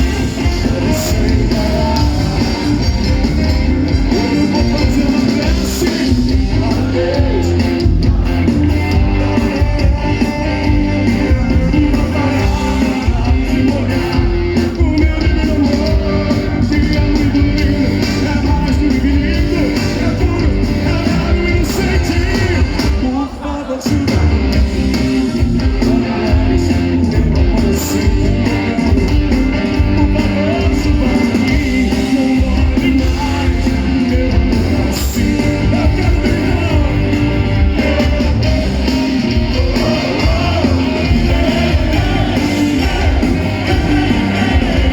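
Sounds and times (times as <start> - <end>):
bass line: 0.0 - 23.2, 23.9 - 44.9
lead singer singing: 0.0 - 44.9
rock band playing: 0.0 - 44.9.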